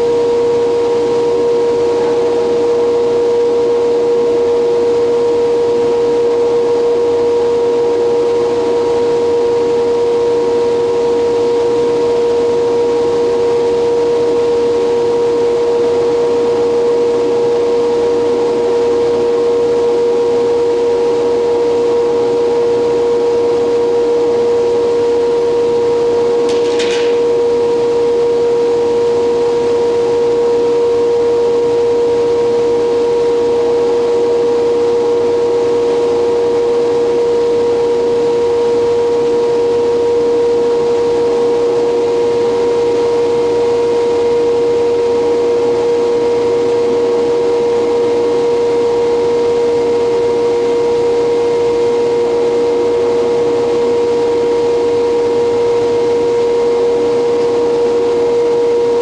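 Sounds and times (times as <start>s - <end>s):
lathe machinery whining drone: 0.0s - 59.0s.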